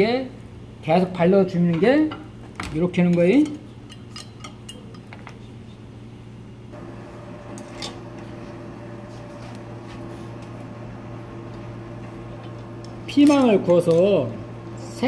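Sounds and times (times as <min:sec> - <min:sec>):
kitchen hum: 0:00.0 - 0:15.0.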